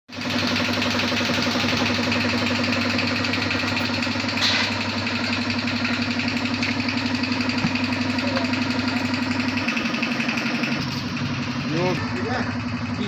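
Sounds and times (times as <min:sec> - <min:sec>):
machine motor pulsing: 0:00.1 - 0:13.0.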